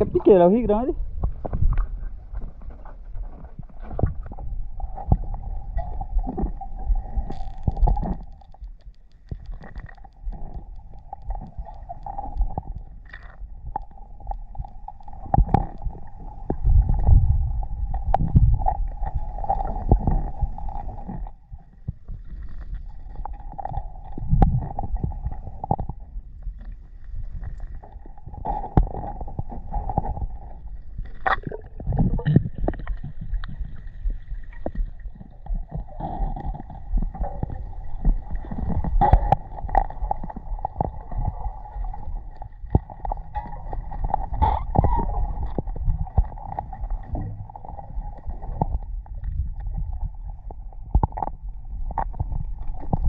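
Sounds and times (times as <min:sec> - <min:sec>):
muffled underwater rumbling: 0:00.0 - 0:53.0.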